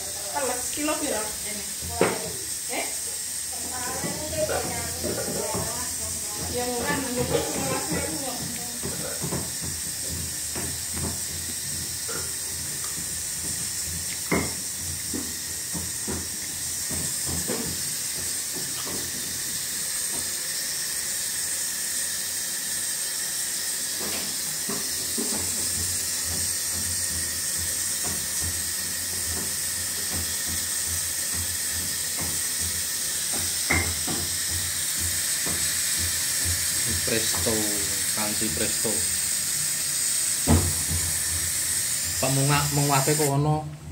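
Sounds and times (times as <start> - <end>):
pressure cooker hissing: 0.0 - 43.9.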